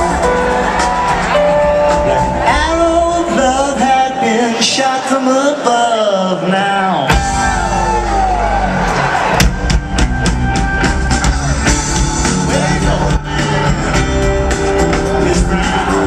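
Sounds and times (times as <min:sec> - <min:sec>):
rock band playing: 0:00.0 - 0:05.4, 0:06.7 - 0:16.0.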